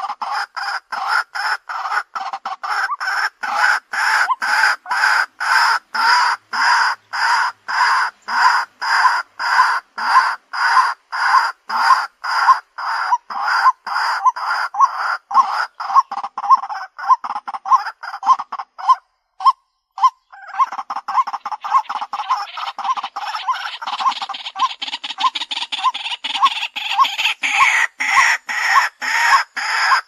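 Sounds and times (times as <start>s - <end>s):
waterhen harsh calls: 0.0s - 30.0s.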